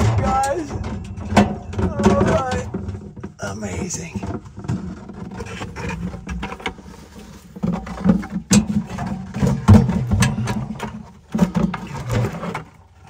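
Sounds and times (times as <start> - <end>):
bucket clunking against ladder: 0.0 - 13.0.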